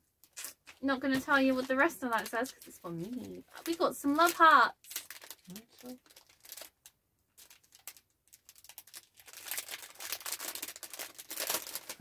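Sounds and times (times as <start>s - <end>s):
packaging crinkling and rustling: 0.2s - 12.0s.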